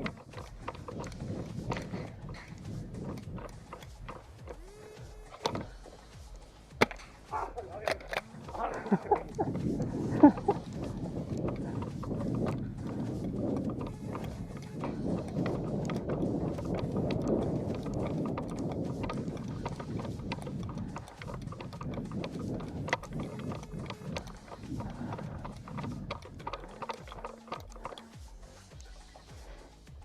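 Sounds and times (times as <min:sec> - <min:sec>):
rustling and shuffling footsteps: 0:00.0 - 0:30.0
sharp clicks and knocks: 0:00.0 - 0:30.0
steady low hum: 0:00.0 - 0:30.0.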